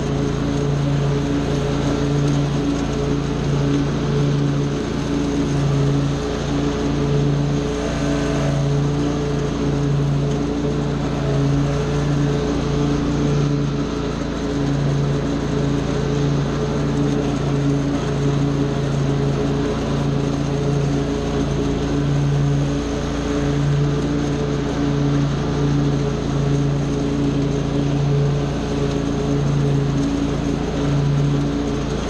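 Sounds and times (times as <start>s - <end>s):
small gasoline engine running: 0.0s - 32.0s.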